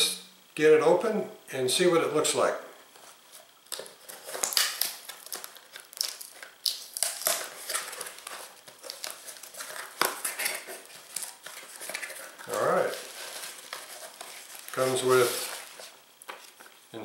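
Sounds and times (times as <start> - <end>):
packaging crinkling and rustling: 3.0 - 16.9.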